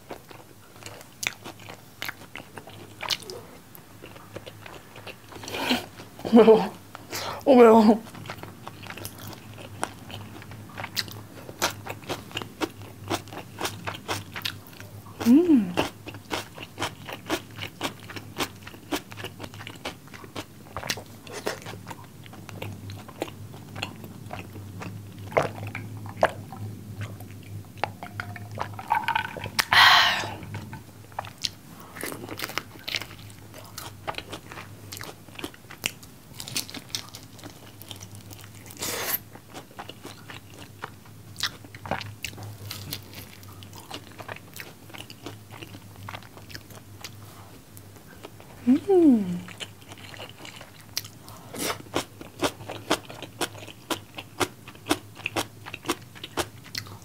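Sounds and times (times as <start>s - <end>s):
wet chewing with crunches: 0.0s - 6.2s, 8.1s - 29.7s, 30.4s - 48.6s, 49.5s - 57.0s.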